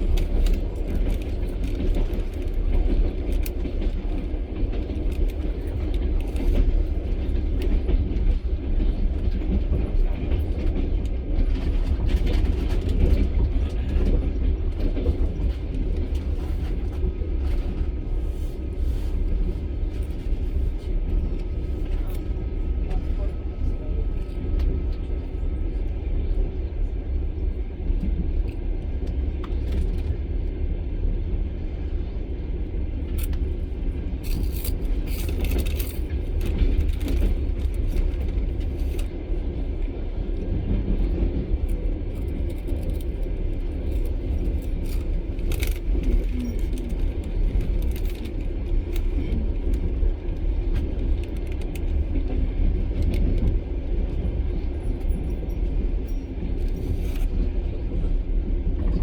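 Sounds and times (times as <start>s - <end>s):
train carriage rumble: 0.0s - 59.0s.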